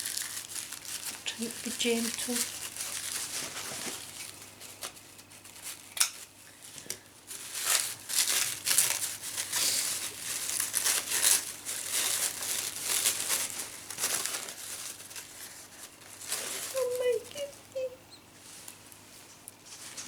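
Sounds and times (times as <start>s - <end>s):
wrapping paper crinkling: 0.0s - 20.0s.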